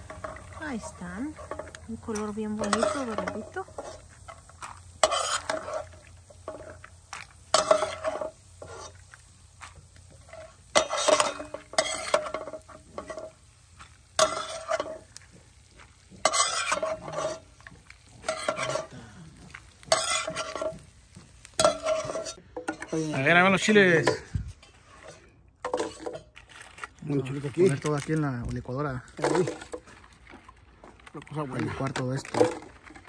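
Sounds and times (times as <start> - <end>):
spoon scraping a pan: 0.0 - 23.3, 23.9 - 27.4
frying sizzle: 0.0 - 24.7, 27.0 - 33.0.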